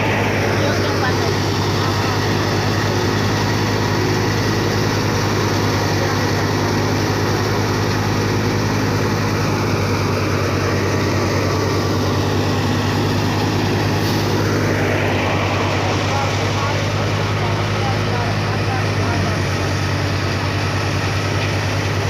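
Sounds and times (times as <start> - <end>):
threshing machine droning: 0.0 - 22.0.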